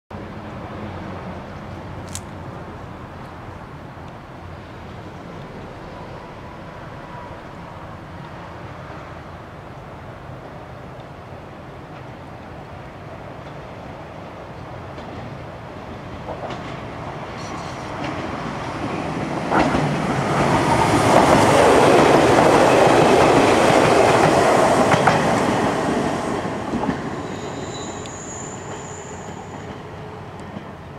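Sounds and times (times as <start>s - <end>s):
electric train passing: 0.2s - 30.9s.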